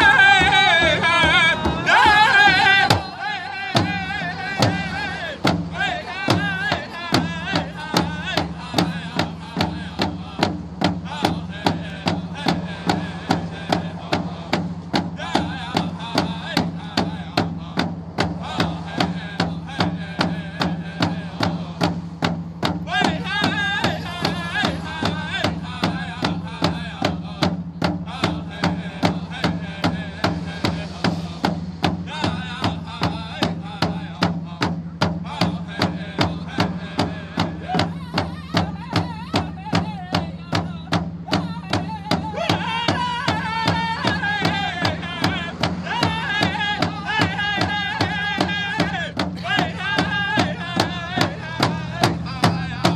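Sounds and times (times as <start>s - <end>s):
frame drums beating: 0.0s - 52.9s
group singing: 0.0s - 52.9s.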